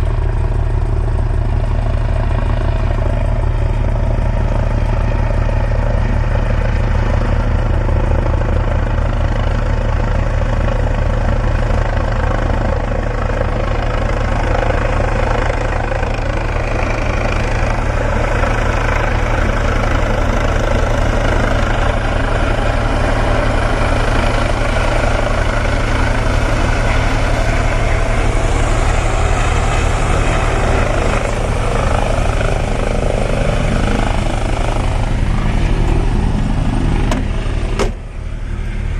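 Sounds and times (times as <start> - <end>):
helicopter engine and turbine noise: 0.0 - 38.9
helicopter rotor beating: 0.0 - 38.9.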